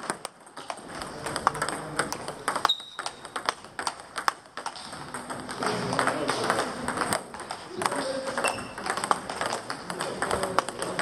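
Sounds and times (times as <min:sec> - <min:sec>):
table tennis balls clicking: 0:00.0 - 0:11.0.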